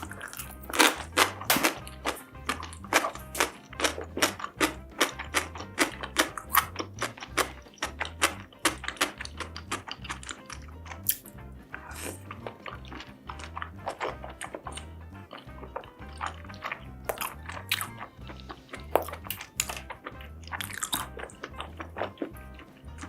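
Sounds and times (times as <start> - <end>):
background music beat: 0.0 - 23.0
crunchy chewing: 0.0 - 23.0.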